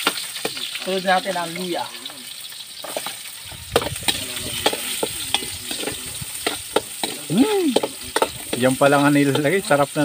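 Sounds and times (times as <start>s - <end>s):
garlic sizzling in a wok: 0.0s - 10.0s
metal spoon scraping a wok: 1.7s - 9.8s.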